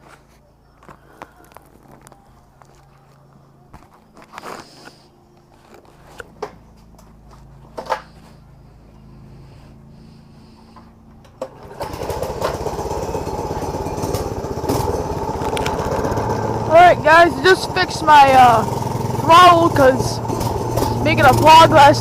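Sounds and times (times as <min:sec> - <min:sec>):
minibike engine running: 0:00.1 - 0:22.0.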